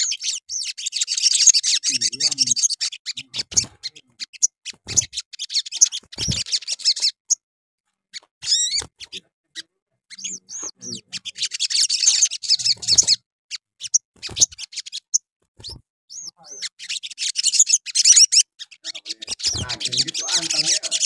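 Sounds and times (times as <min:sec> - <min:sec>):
bird chirping and twittering: 0:00.0 - 0:07.4, 0:08.1 - 0:21.0.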